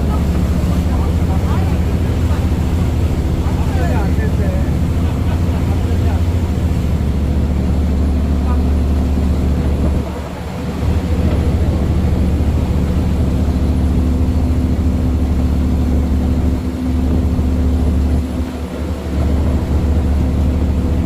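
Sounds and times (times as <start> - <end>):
large engine droning: 0.0 - 21.0.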